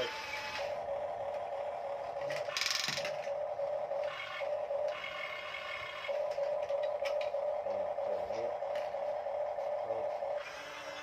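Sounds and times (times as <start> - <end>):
toy motor and gears whirring: 0.0 - 0.9, 2.1 - 11.0.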